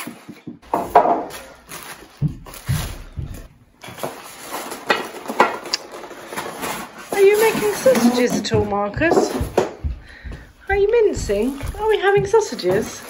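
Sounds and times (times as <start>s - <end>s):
plastic bag rustling: 0.7s - 13.0s.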